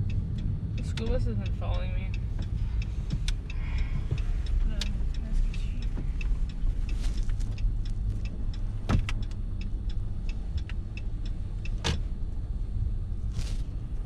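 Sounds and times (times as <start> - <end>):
truck driving rumble from cab: 0.0 - 14.0
turn signal ticking: 0.0 - 14.0.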